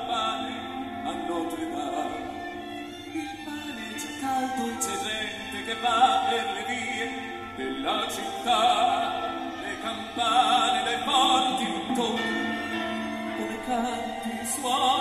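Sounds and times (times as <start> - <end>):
man singing operatically: 0.0 - 2.6, 3.6 - 15.0
accompanying music: 0.0 - 15.0.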